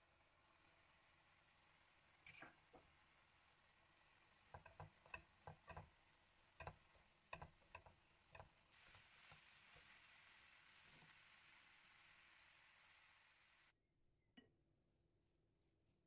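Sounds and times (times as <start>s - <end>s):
faint steady hiss: 0.0s - 13.8s.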